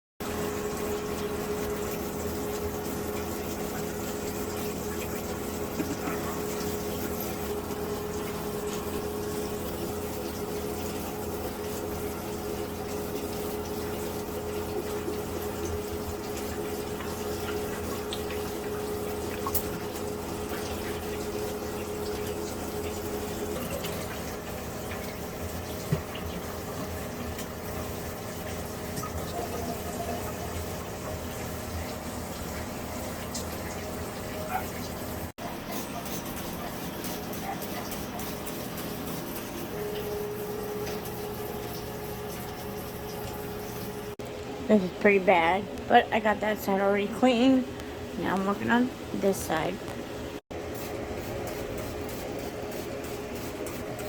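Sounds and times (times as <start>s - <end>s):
water running from a tap: 0.2s - 44.2s, 45.0s - 54.0s.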